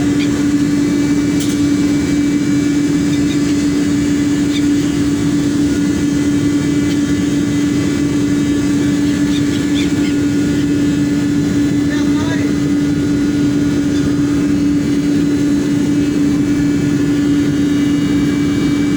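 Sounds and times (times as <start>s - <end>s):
boat engine running: 0.0s - 18.9s.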